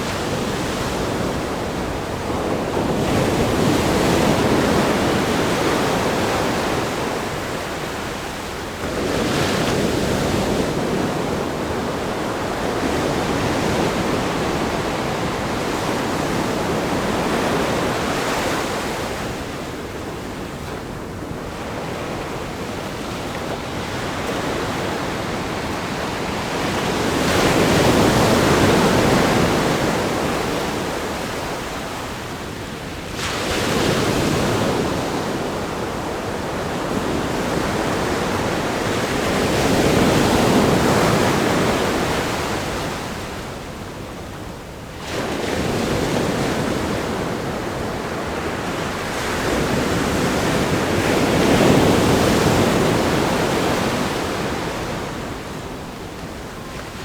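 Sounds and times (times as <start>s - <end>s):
surf washing up a beach: 0.0s - 57.0s.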